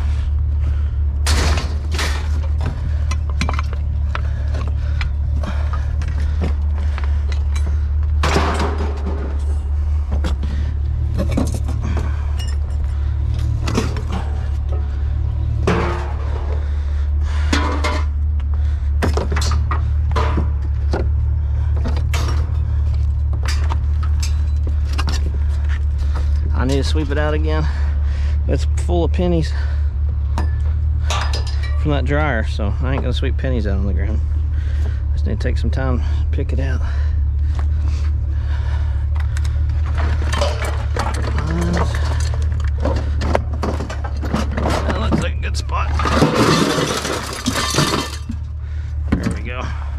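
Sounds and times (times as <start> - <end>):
engine rumbling: 0.0 - 49.9
steady low hum: 0.0 - 49.9
scrap metal knocks and clanks: 1.2 - 27.8, 29.5 - 35.8, 39.1 - 49.5.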